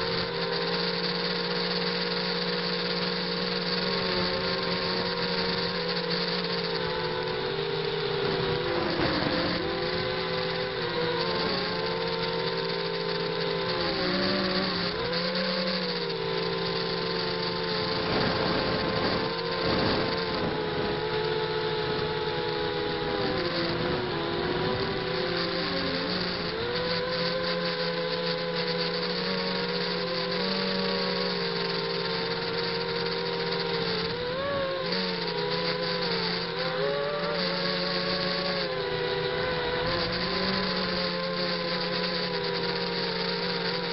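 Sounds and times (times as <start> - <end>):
quadcopter motors whining: 0.0 - 43.9.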